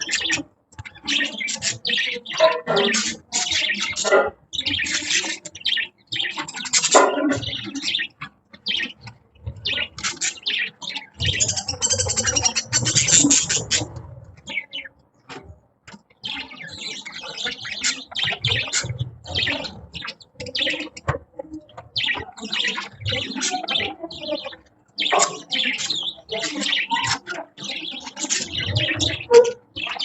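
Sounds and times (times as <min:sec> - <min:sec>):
budgerigars chirping and chattering: 0:00.0 - 0:30.0.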